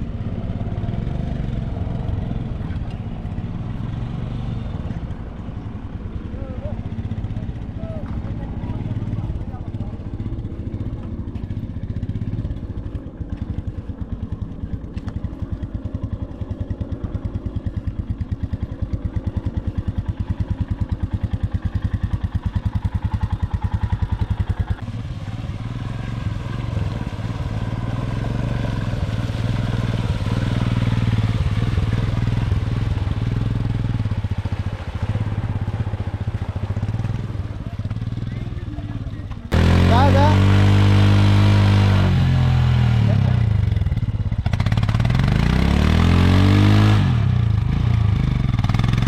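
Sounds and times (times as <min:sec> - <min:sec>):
single-cylinder engine running: 0:00.0 - 0:49.0.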